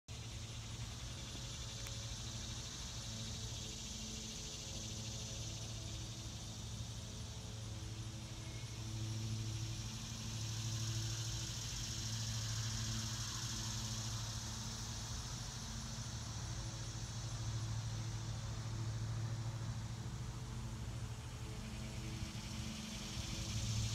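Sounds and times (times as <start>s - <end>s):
cicada chorus: 0.1s - 23.9s.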